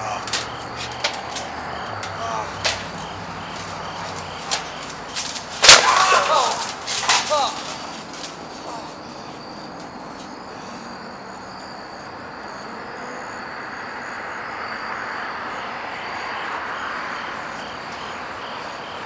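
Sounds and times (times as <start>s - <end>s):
crickets chirping: 0.0s - 19.0s
rushing background noise: 0.0s - 19.0s.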